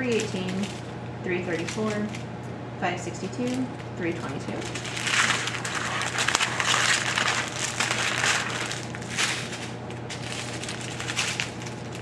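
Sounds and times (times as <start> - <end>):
plastic bags crinkling: 0.0 - 2.4, 3.4 - 12.0.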